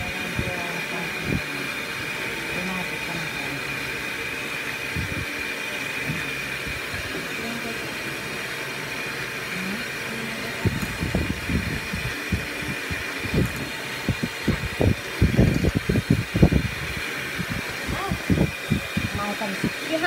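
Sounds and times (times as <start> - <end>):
electric hand mixer whining: 0.0 - 20.0.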